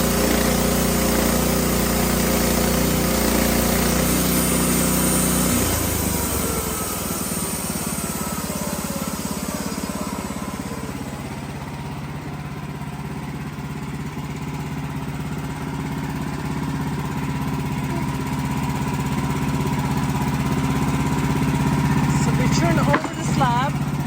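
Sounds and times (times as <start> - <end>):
sawmill engine running: 0.0 - 24.0.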